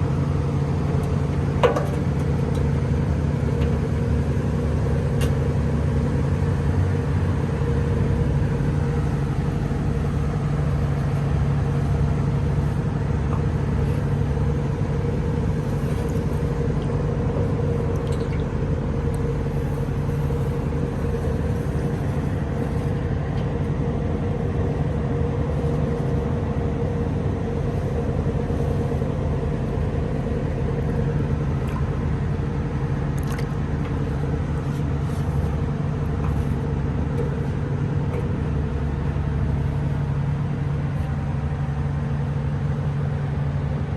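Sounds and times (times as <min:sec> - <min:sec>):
engine running steadily: 0:00.0 - 0:43.9.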